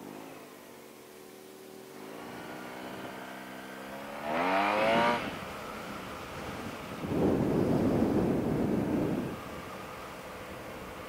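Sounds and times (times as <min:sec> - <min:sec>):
scooter engine accelerating: 0:01.9 - 0:11.0.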